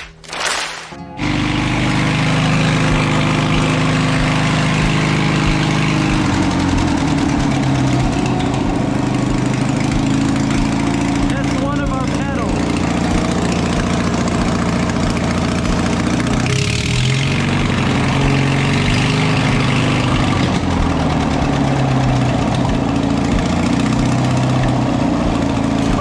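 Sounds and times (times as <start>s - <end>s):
small engine idling: 1.1s - 26.0s.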